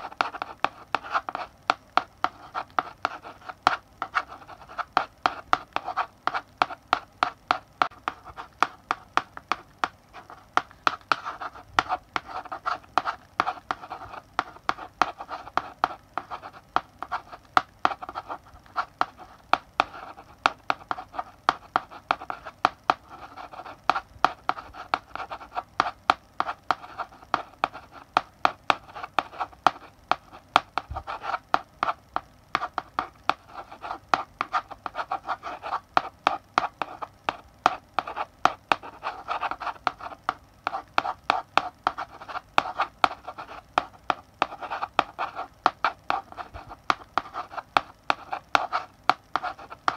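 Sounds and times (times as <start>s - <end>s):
chalk scratching on blackboard: 0.0s - 9.6s, 10.2s - 49.9s
chalk tapping on board: 0.0s - 49.9s.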